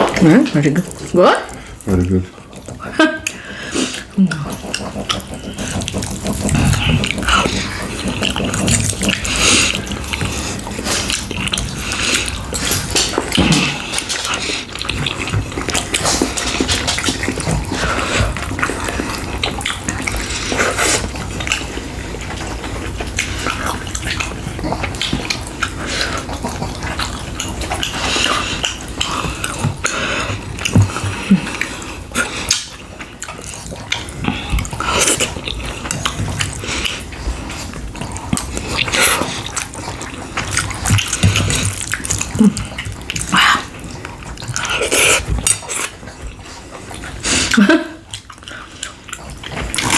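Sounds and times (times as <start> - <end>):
wet chewing and lip smacking: 0.0 - 49.9.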